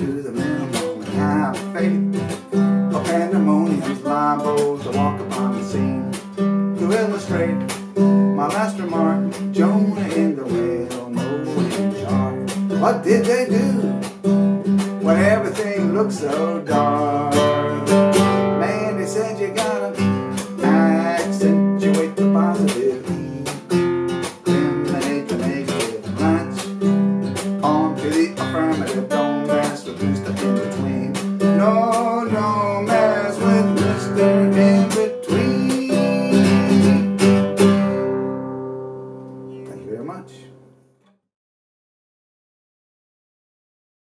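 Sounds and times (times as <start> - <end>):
classical guitar strumming: 0.0 - 41.2.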